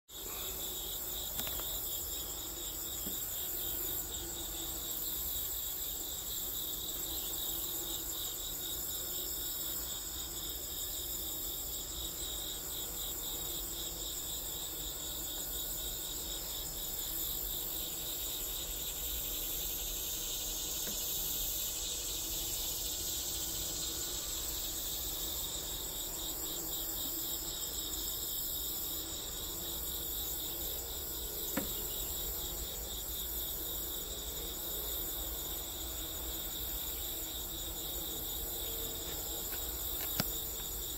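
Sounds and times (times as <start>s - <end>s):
high continuous insect buzz: 0.0s - 40.9s.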